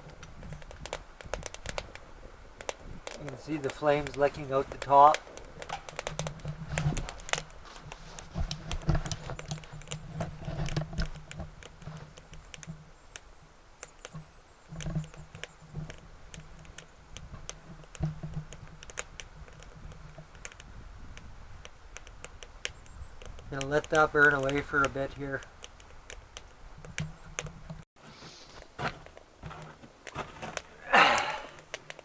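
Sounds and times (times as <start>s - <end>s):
twig fire crackling and popping: 0.0s - 32.0s.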